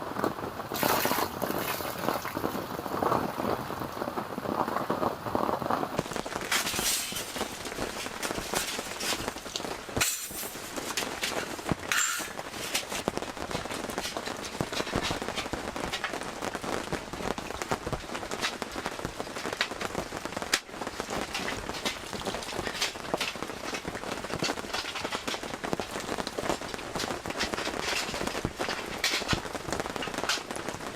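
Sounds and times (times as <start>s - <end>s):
heavy rain on a canvas tent: 0.0s - 30.9s.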